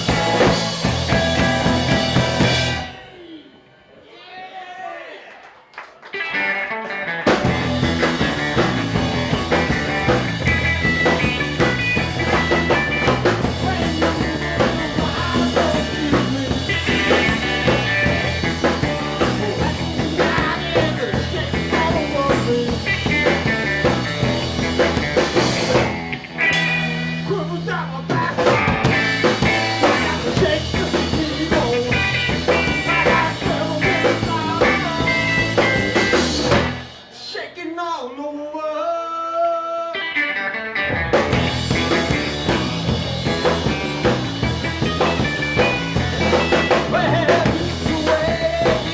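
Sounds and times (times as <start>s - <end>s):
drum kit beat: 0.0s - 3.0s, 7.3s - 37.2s, 41.2s - 48.9s
live rock band playing: 0.0s - 3.2s, 6.1s - 37.2s, 40.0s - 48.9s.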